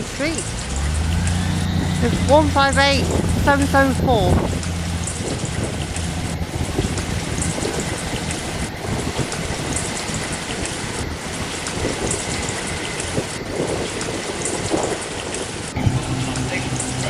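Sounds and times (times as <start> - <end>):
diesel train engine drone: 0.0 - 14.8, 15.7 - 17.0.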